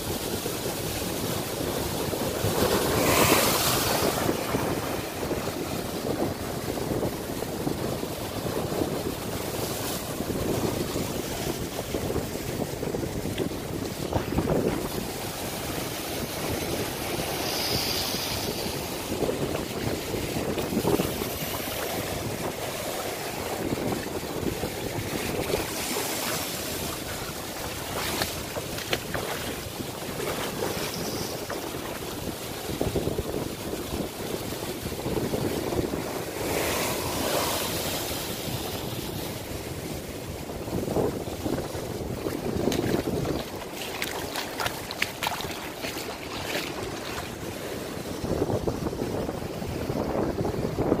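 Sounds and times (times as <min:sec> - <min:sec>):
ocean surf breaking: 0:00.0 - 0:51.0
seawater washing in rock hole: 0:00.0 - 0:51.0
wind buffeting microphone: 0:00.0 - 0:51.0.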